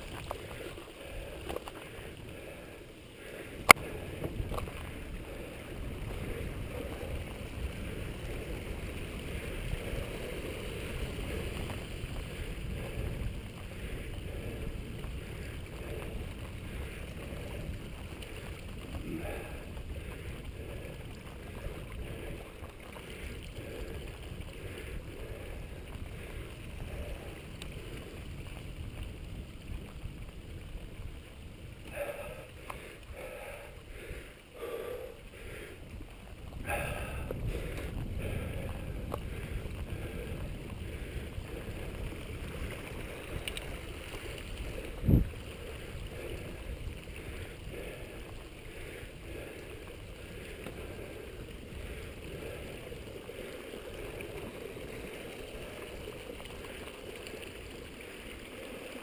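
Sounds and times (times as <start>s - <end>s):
bike tyres rolling on dirt: 0.0s - 59.0s
wind on microphone: 3.7s - 34.0s, 34.6s - 55.7s.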